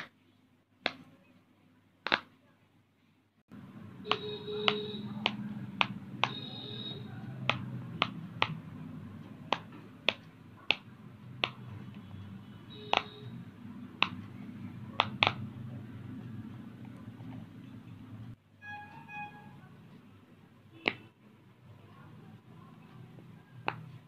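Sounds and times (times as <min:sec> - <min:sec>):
low steady background noise: 0:00.0 - 0:24.0.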